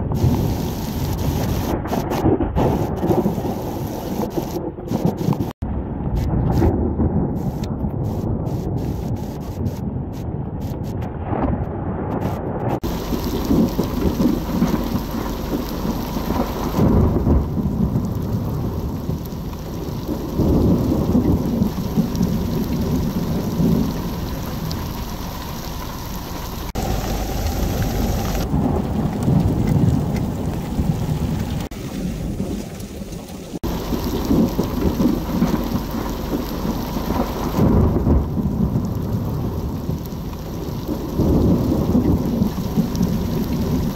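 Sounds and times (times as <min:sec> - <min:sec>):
deep rumbling: 0:00.0 - 0:43.9
heavy rain pouring: 0:00.0 - 0:43.9.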